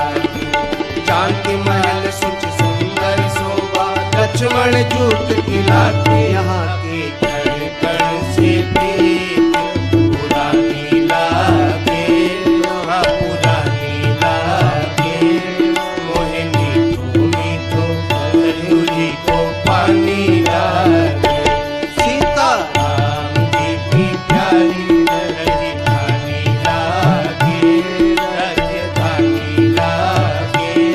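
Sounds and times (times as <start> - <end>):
tabla playing rhythm: 0.0 - 30.9.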